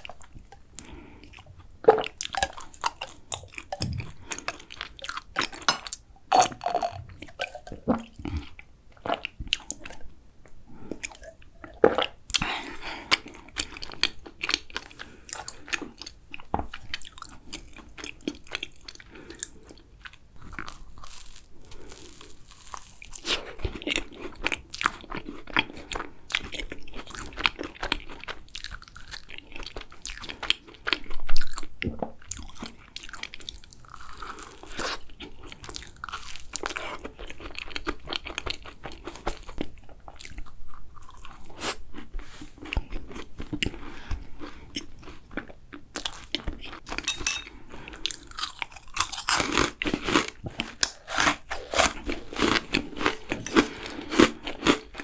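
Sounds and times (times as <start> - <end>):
crunching and chewing macarons: 0.0 - 10.0, 10.9 - 55.0.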